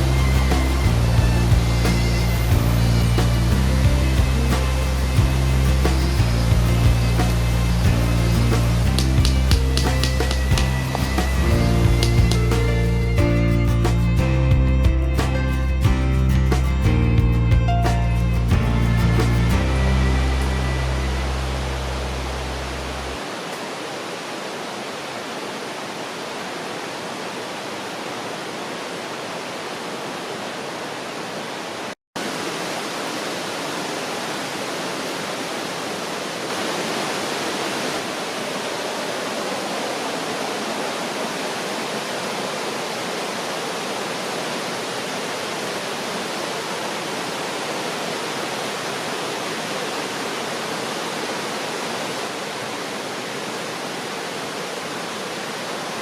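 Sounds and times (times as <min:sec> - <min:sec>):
stream water flowing: 0:00.0 - 0:17.0, 0:17.7 - 0:56.0.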